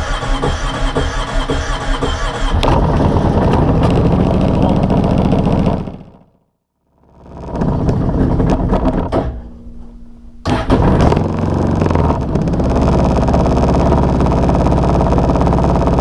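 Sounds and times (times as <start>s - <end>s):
small vehicle engine running: 0.0s - 8.8s, 10.5s - 16.0s.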